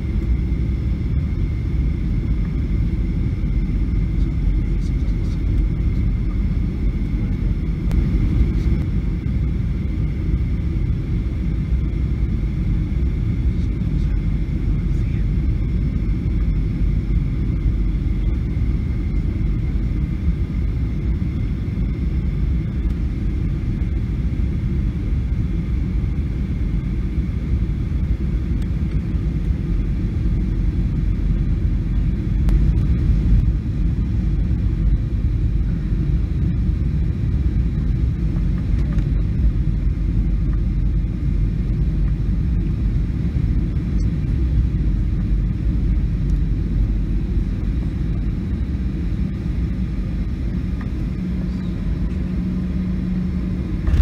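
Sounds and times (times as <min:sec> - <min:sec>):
engine and airflow rumble: 0:00.0 - 0:54.0
faint high whine: 0:00.0 - 0:54.0.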